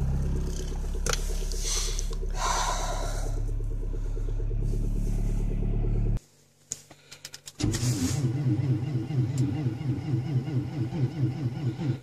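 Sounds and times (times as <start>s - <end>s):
car engine running: 0.0s - 6.5s, 7.6s - 12.0s.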